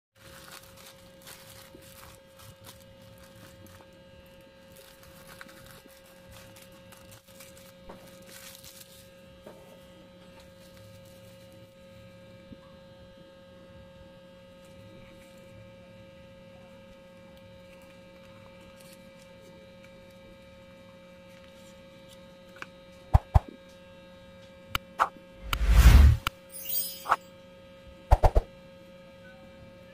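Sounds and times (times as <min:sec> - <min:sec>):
electrical mains hum: 0:00.2 - 0:29.9.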